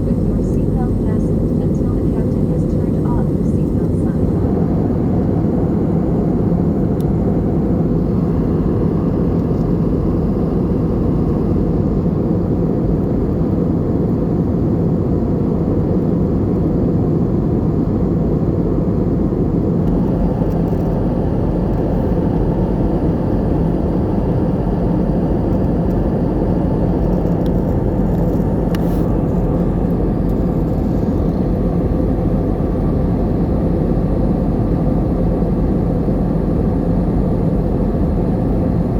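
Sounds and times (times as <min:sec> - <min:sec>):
aircraft cabin engine drone: 0:00.0 - 0:38.9.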